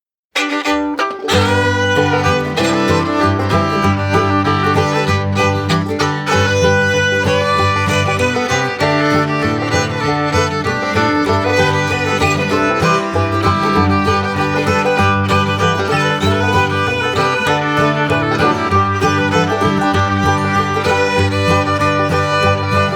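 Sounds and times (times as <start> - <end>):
fiddle and plucked strings music: 0.4 - 22.9.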